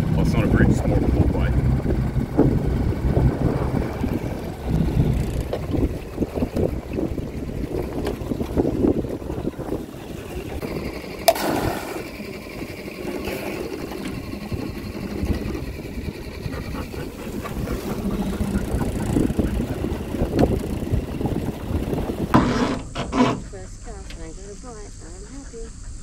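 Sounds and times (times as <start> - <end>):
outboard motor running: 0.0 - 26.0
water and wind noise: 0.0 - 26.0.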